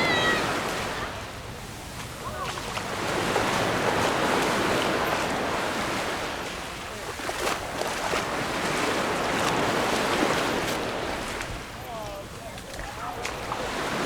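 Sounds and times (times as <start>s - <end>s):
sea waves breaking on beach: 0.0s - 14.0s.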